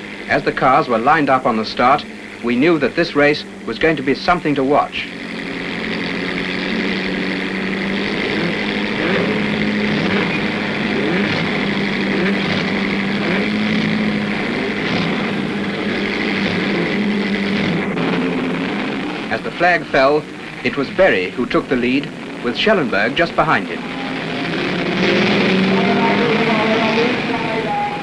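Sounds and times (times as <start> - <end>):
engine throttle blips: 0.0 - 28.0
racing car engines droning: 0.0 - 28.0.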